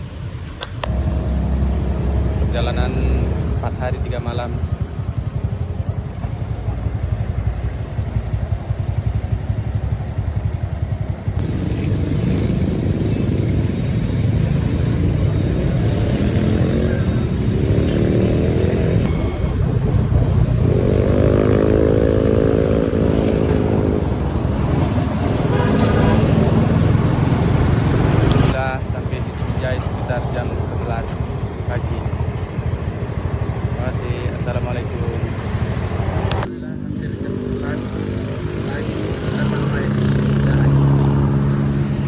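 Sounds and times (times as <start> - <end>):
motorcycle engine running: 0.6 - 42.0.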